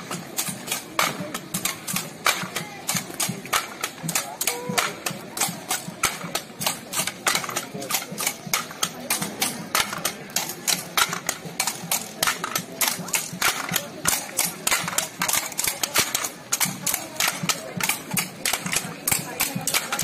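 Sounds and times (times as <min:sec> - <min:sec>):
sticks clacking together: 0:00.0 - 0:20.0.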